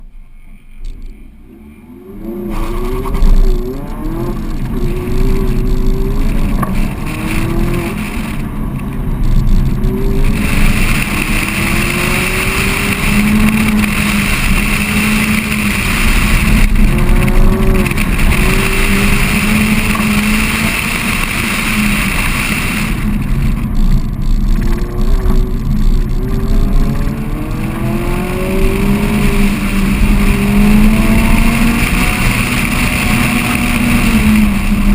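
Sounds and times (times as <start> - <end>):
car engine revving: 0.8 - 34.9.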